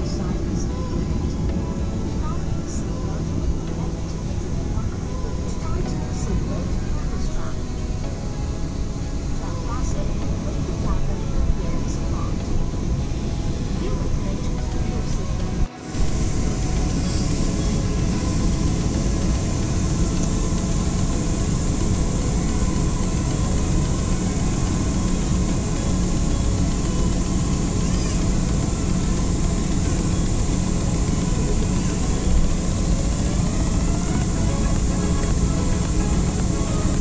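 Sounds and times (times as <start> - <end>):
airliner engine and cabin noise: 0.0 - 37.0
faint rising whine: 0.0 - 37.0.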